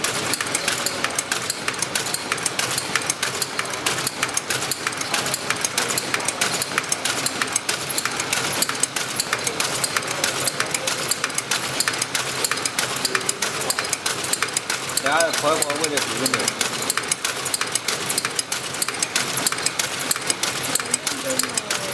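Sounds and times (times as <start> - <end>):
machine rapid clicking: 0.0 - 21.9.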